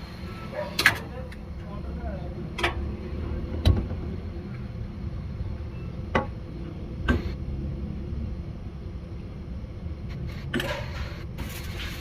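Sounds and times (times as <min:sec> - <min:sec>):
steady low rumble: 0:01.1 - 0:12.0.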